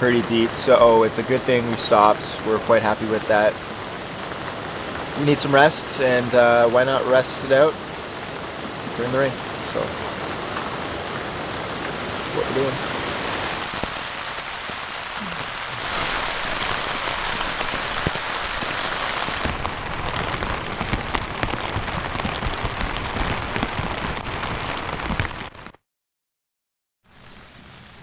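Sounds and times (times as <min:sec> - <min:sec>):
rain on tent fabric: 0:00.0 - 0:25.8, 0:27.0 - 0:28.0.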